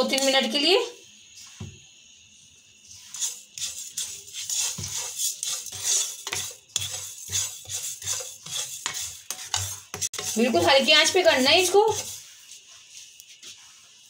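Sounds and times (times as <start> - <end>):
spatula stirring seeds in a pan: 0.0 - 1.6, 2.6 - 14.0.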